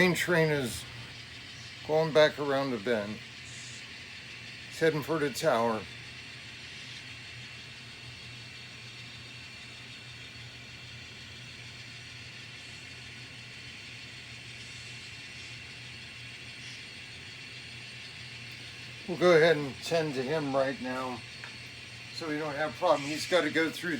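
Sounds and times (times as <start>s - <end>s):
model train humming: 0.0s - 23.9s.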